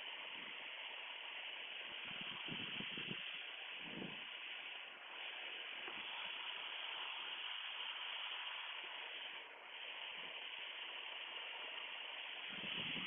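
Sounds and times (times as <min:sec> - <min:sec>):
aircraft cabin engine and airflow hiss: 0:00.0 - 0:13.0.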